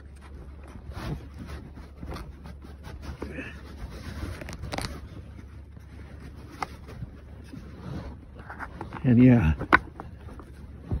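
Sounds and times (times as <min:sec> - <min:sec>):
rubber belt rubbing and scraping: 0:00.0 - 0:11.0.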